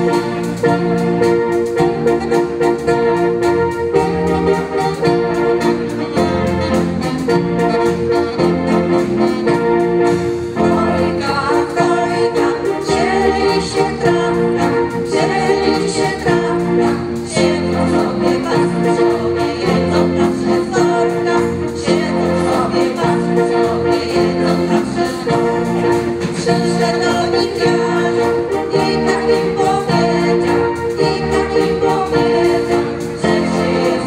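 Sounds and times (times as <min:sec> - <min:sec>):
electronic organ chords: 0:00.0 - 0:34.0.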